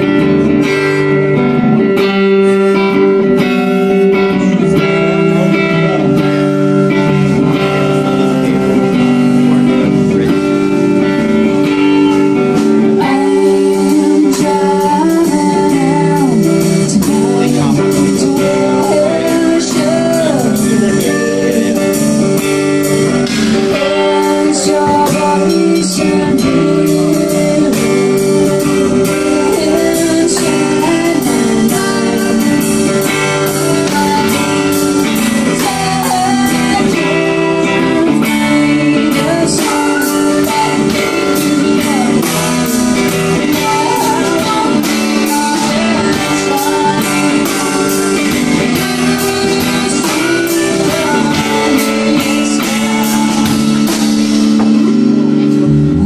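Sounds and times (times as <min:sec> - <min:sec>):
woman singing: 0:00.0 - 0:55.2
live blues-rock band: 0:00.0 - 0:56.0.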